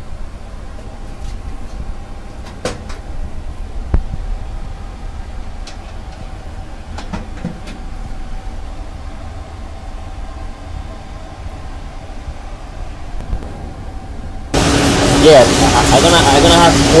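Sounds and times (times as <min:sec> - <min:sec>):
cooling fans humming and whining: 0:00.0 - 0:17.0.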